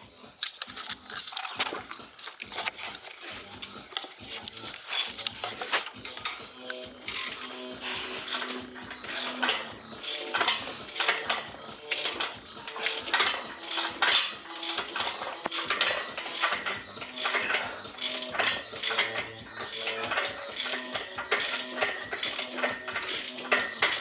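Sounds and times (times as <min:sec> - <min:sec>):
ratchet clicking: 0:03.5 - 0:24.0.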